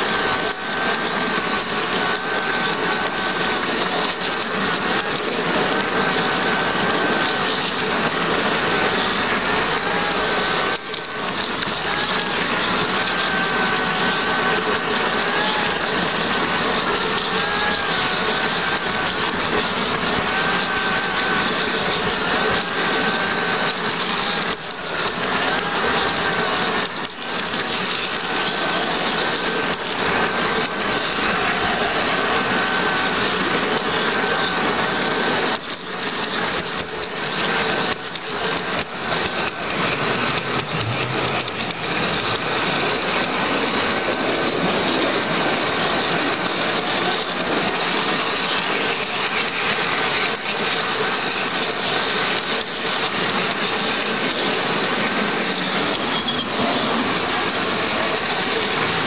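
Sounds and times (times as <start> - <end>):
model locomotive motor whine: 0.0 - 59.0
wheels rumbling on track: 0.0 - 59.0.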